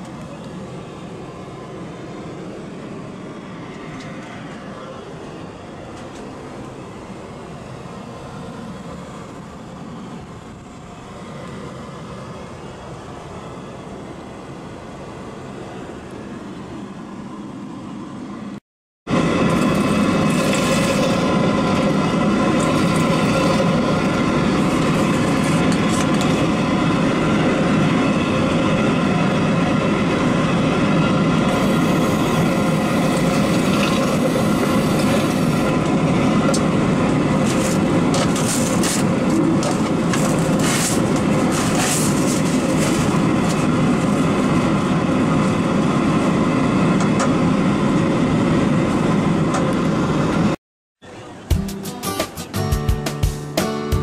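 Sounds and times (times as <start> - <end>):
steady humming tones: 0.0 - 51.6
airliner cabin noise: 0.0 - 51.8.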